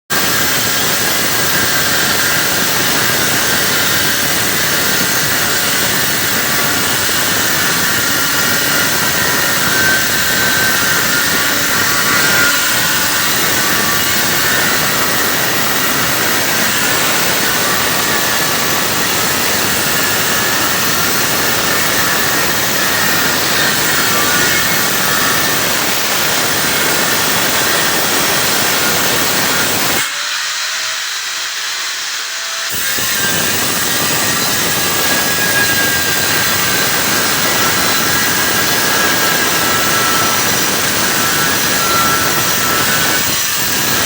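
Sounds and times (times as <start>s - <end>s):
angle grinder cutting tile: 0.1s - 44.0s.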